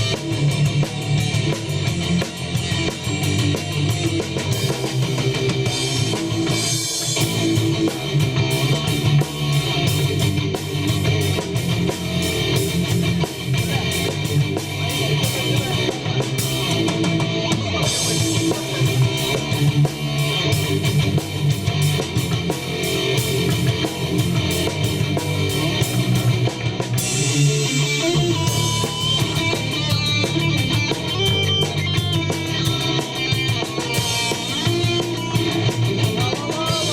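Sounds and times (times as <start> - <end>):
drum kit with cymbals: 0.0 - 36.9
electric guitar: 0.0 - 36.9.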